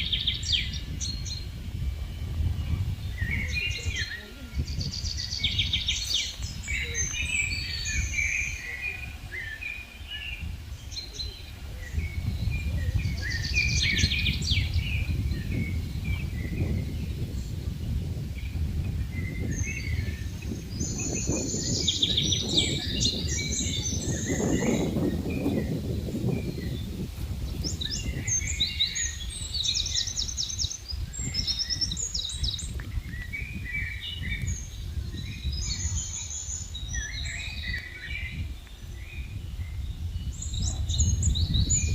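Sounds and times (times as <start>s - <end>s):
songbirds chirping and trilling: 0.0s - 41.9s
wind rumble on microphone: 0.0s - 41.9s.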